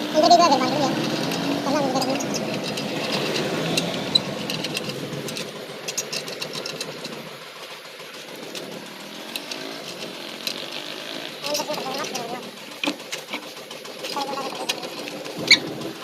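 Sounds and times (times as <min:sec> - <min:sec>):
engine running with rapid clicking: 0:00.0 - 0:16.0.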